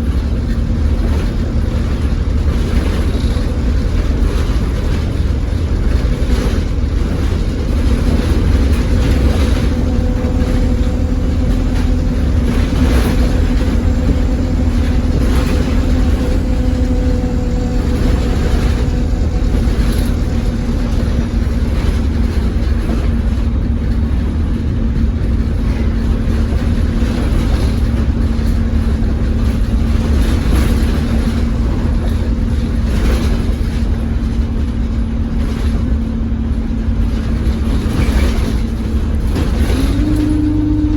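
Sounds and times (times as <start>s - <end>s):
hovering whine: 0.0s - 33.9s, 37.0s - 40.9s
bus body rattling and knocking: 0.0s - 40.9s
bus engine and road rumble: 0.0s - 40.9s.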